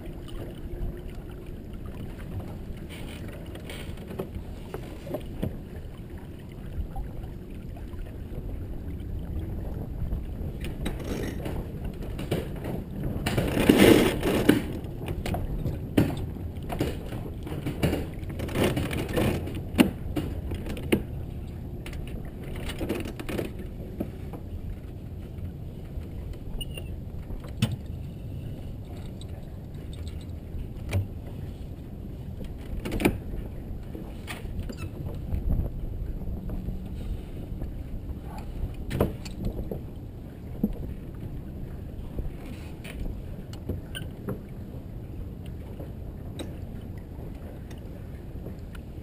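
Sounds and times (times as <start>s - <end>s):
wind: 0.0s - 49.0s.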